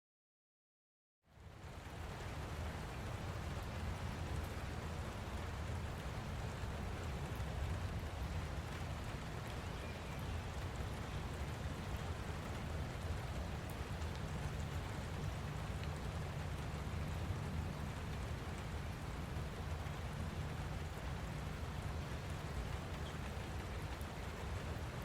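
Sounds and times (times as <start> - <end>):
light rain falling: 1.2 - 25.0.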